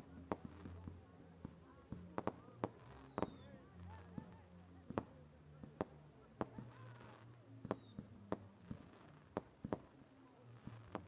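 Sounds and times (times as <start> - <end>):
distant fireworks cracking: 0.2 - 3.4, 4.1 - 10.0.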